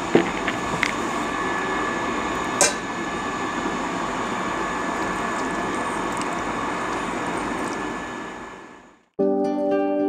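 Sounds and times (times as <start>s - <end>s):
steady background hiss: 0.0s - 9.1s.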